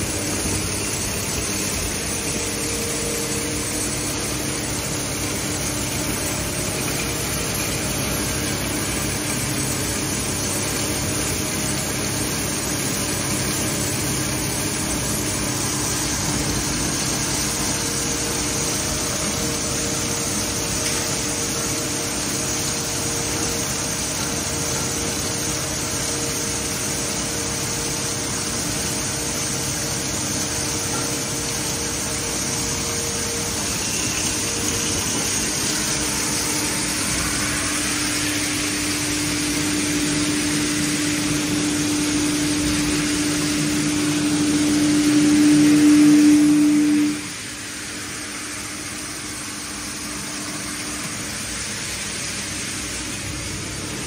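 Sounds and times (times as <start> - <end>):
machine whine: 0.0 - 54.0
shredding machine drone: 0.0 - 54.0.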